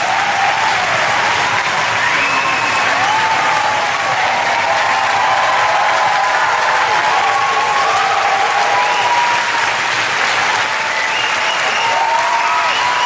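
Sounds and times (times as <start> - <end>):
crowd cheering and applauding: 0.0 - 13.0.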